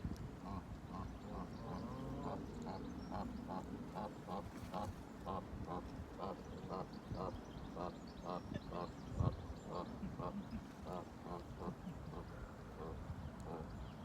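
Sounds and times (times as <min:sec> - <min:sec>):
ducks quacking: 0:00.4 - 0:13.7.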